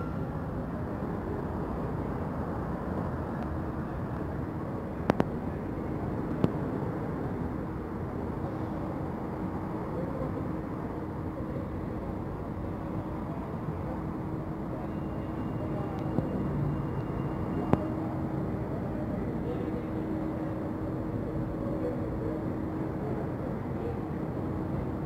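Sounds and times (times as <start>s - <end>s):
metro train rumbling: 0.0s - 25.0s.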